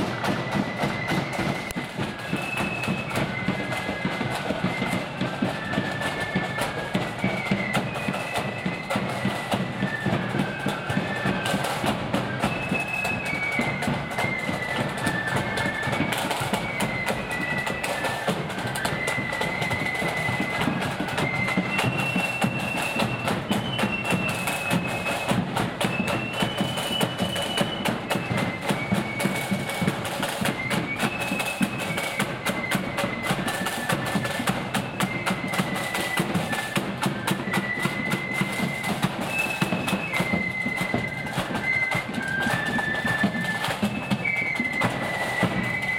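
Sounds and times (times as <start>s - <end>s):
flutes playing melody: 0.0s - 45.9s
rapid snare drumming: 0.0s - 45.9s.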